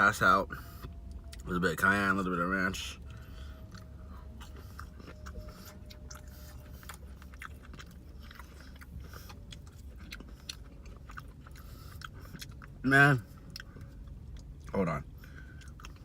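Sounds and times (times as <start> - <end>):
person chewing crispy food: 0.5 - 16.0.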